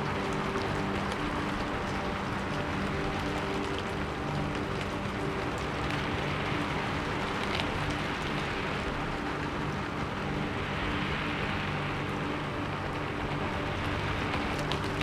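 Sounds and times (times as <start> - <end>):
soft music of low held notes: 0.0 - 15.0
steady rain: 0.0 - 15.0.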